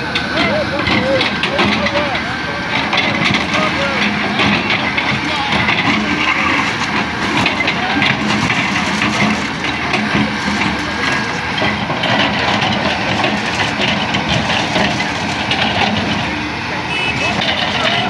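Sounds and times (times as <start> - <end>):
construction machinery engine drone: 0.0 - 18.0
irregular clattering: 0.1 - 18.0.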